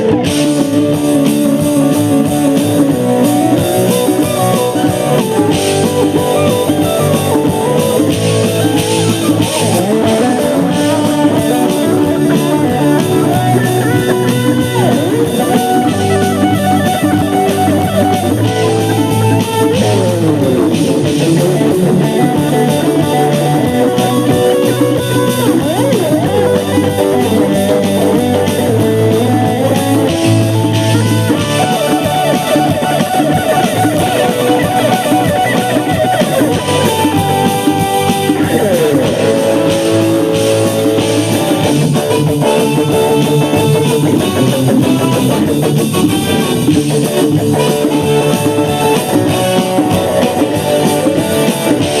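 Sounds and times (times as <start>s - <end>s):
electric guitar rock solo: 0.0s - 52.0s.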